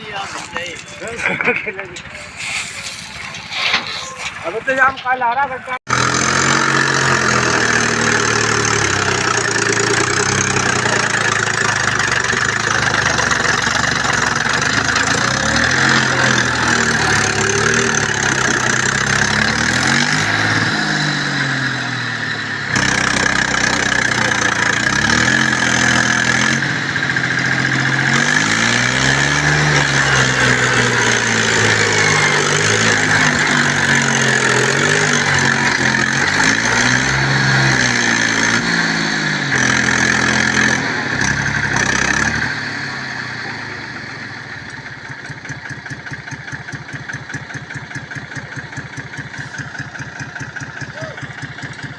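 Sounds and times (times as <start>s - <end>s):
diesel tractor engine revving: 0.0s - 51.9s.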